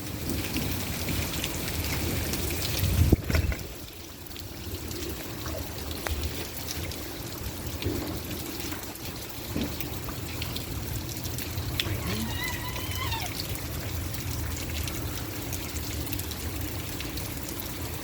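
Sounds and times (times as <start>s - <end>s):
rainwater pouring and trickling: 0.0s - 18.0s.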